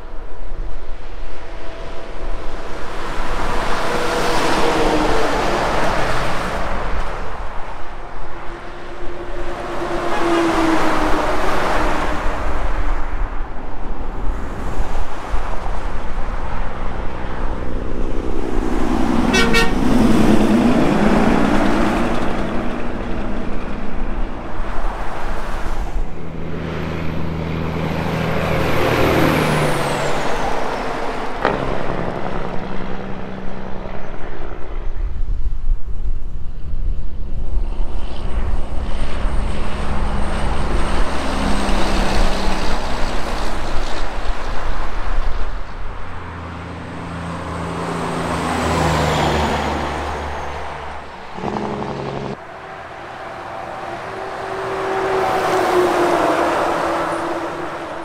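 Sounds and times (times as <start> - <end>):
truck engine drone: 0.0 - 35.1, 37.6 - 58.0
cars and trucks passing: 0.0 - 58.0.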